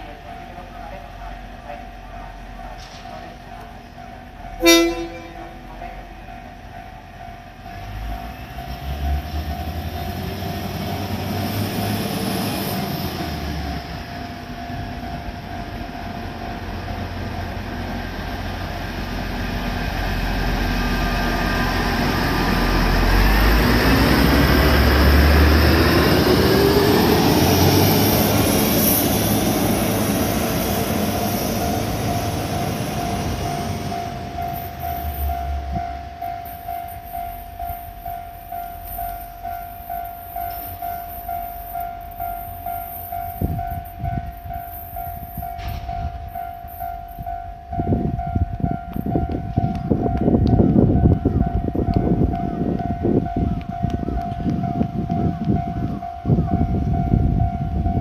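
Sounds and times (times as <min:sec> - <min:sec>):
diesel train engines: 0:00.0 - 0:58.0
train wheels on rails: 0:00.0 - 0:58.0.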